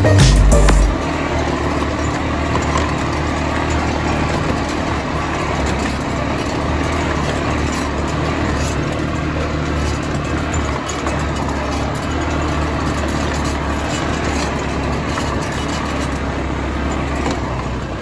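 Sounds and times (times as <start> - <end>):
quad bike engines droning: 0.0 - 18.0.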